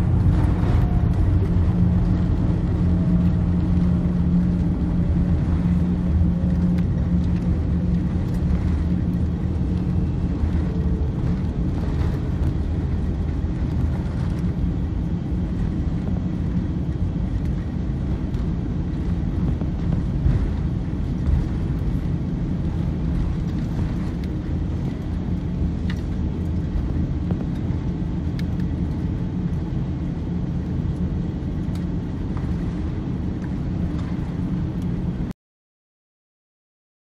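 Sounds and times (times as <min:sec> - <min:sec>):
aircraft cabin low rumble: 0:00.0 - 0:35.3.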